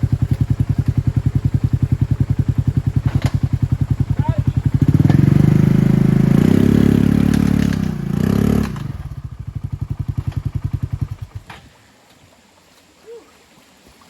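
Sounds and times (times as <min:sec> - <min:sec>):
vehicle engine revving and idling: 0:00.0 - 0:11.5.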